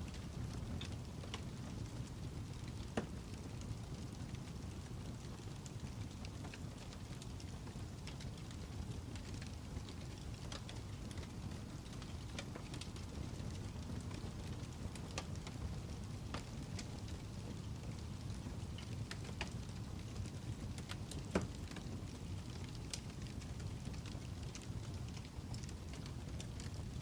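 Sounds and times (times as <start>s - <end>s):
fire crackles and pops: 0.0s - 27.0s
wood fire rumbling: 0.0s - 27.0s.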